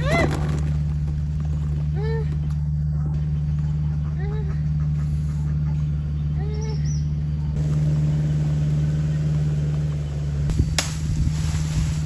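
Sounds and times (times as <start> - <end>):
rapid low pulsing: 0.0 - 12.0
small engine humming: 0.0 - 12.0.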